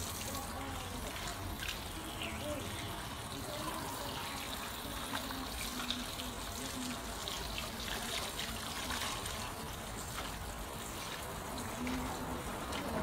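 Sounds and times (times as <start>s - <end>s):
water running and splashing into basin: 0.0s - 13.0s.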